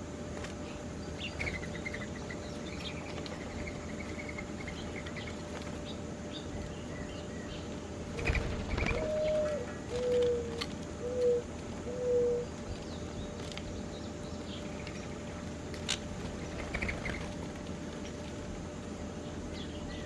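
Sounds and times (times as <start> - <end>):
steady background hiss: 0.0 - 20.0
small birds chirping: 0.4 - 11.4, 12.1 - 17.4, 19.1 - 20.0.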